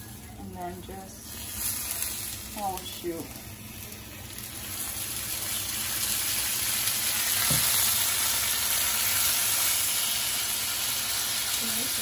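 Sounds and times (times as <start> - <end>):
taco sizzling in hot oil: 1.0 - 12.0.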